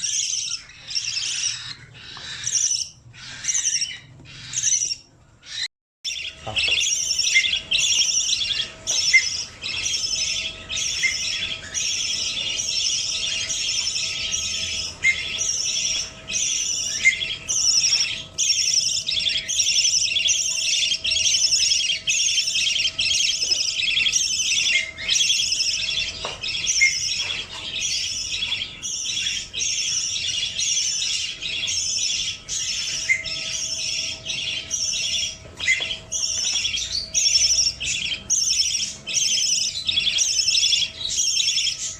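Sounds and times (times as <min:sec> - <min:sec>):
baby budgerigar begging calls: 0:00.0 - 0:41.9.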